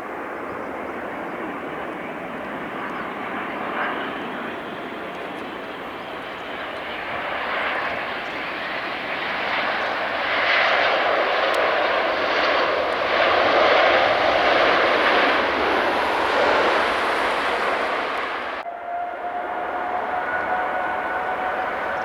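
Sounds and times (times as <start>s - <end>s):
jet engines passing: 0.0s - 22.0s.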